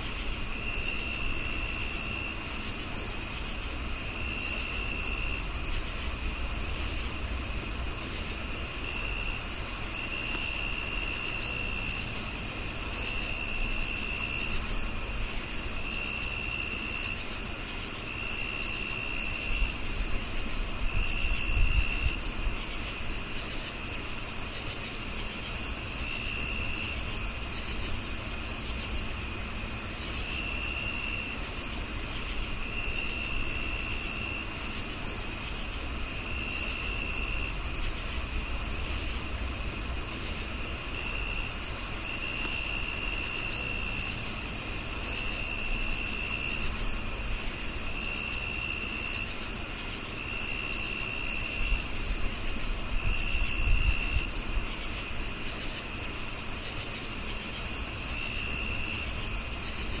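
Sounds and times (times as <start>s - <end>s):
cricket chirping in pulses: 0.0s - 60.0s
cricket high steady trill: 0.0s - 60.0s
cricket lower trill: 0.0s - 60.0s.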